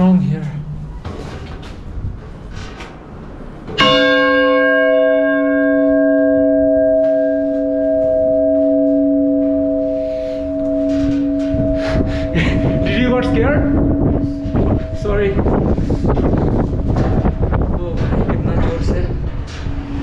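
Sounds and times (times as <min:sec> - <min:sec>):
large church bell ringing: 0:03.7 - 0:19.8.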